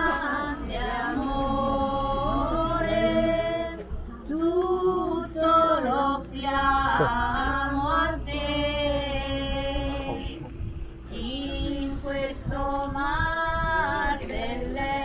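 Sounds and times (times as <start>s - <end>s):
group singing a hymn: 0.0s - 15.0s.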